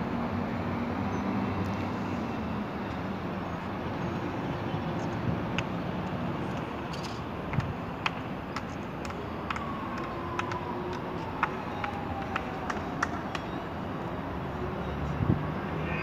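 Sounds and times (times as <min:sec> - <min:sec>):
distant traffic noise: 0:00.0 - 0:16.0.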